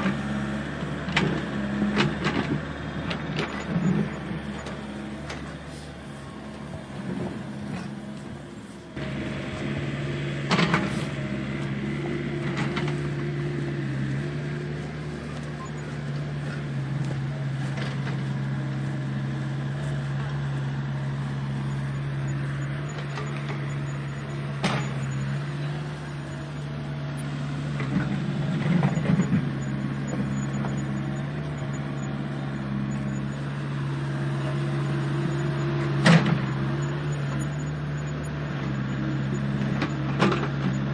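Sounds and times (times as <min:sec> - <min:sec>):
electric motors whining: 0:01.0 - 0:40.9.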